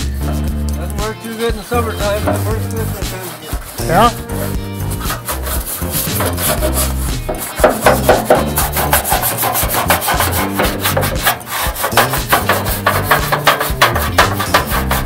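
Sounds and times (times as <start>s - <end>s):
background music: 0.0s - 15.0s
plastic scraper on metal: 1.2s - 15.0s.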